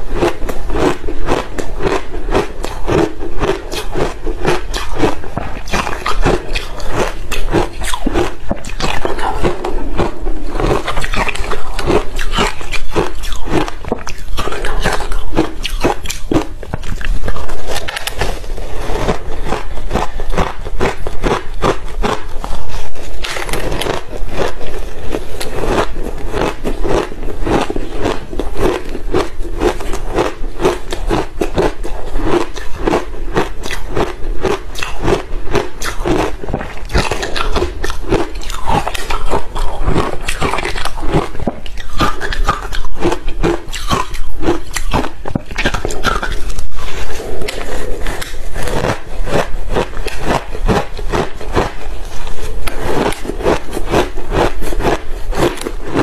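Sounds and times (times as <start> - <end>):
crunching ice in mouth: 0.0 - 56.0.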